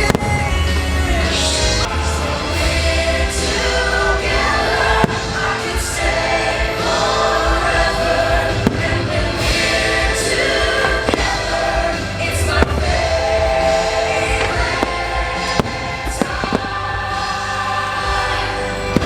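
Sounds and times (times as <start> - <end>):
choir singing with music: 0.0 - 19.0
firework bangs: 0.0 - 19.0.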